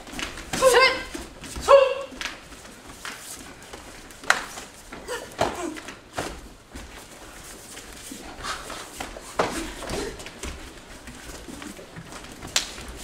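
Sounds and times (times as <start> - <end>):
bare feet on padded mat: 0.0 - 13.0.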